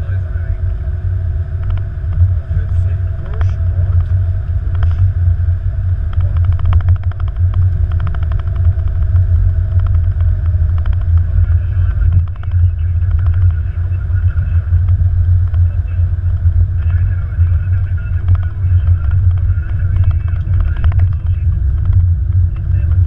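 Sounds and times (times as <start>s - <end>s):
low rumble in aircraft cockpit: 0.0s - 23.0s.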